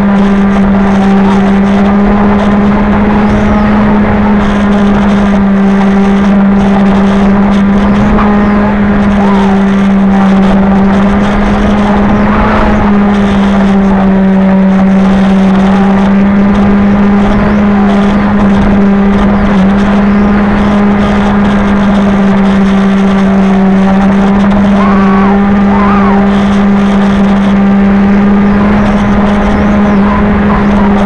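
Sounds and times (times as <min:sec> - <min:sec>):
model airplane motor and propeller: 0:00.0 - 0:31.0.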